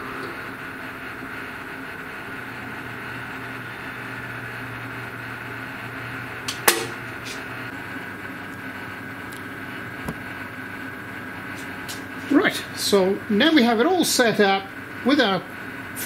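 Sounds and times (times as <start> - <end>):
machine hum: 0.0 - 13.6.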